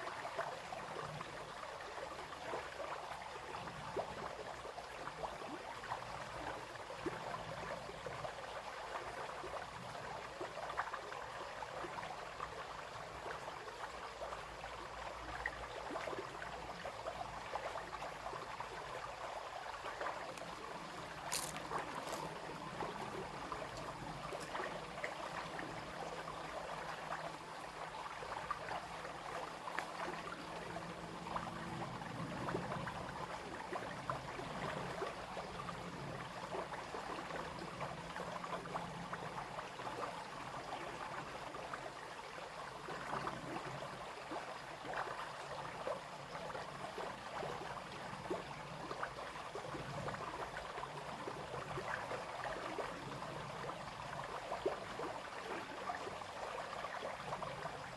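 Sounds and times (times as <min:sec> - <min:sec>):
brook babbling over stones: 0:00.0 - 0:57.9.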